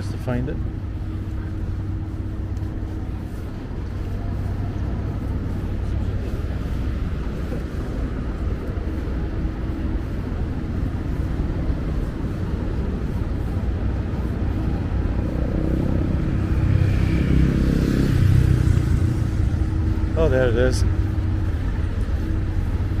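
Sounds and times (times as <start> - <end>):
low rumble of street traffic: 0.0 - 23.0
vehicle engine: 0.0 - 23.0.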